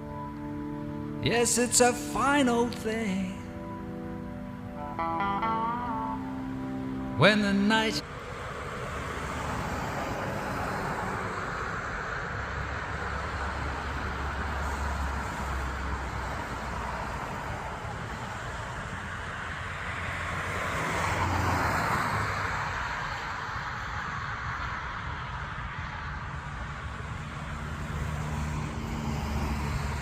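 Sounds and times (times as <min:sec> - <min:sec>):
road traffic rumble: 0:00.0 - 0:30.0
vehicle passing: 0:04.7 - 0:25.0, 0:26.0 - 0:30.0.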